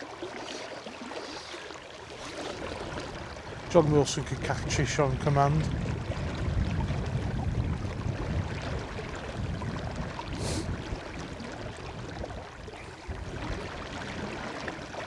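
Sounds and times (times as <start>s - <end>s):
river water running: 0.0s - 15.0s
wind buffeting microphone: 2.2s - 15.0s.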